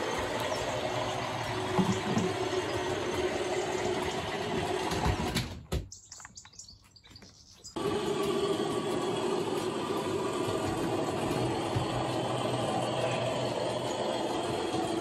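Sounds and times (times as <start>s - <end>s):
model train wheels whirring on track: 0.0s - 5.3s, 7.8s - 15.0s.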